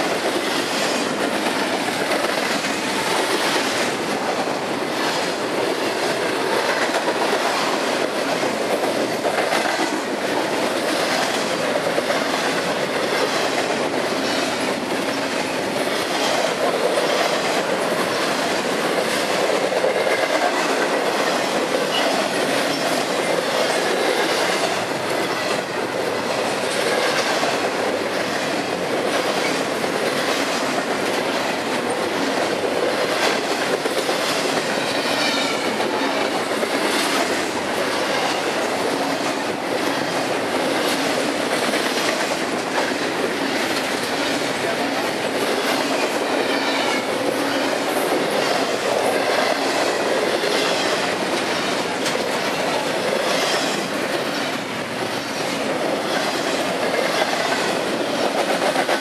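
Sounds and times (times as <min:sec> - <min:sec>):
freight train wheels rumbling: 0:00.0 - 0:59.0
wheels clickety-clack on rail joints: 0:00.0 - 0:59.0.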